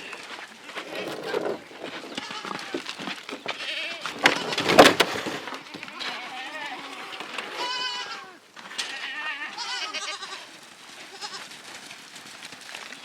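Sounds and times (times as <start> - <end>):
goats bleating: 0.0 - 4.8, 5.4 - 11.6.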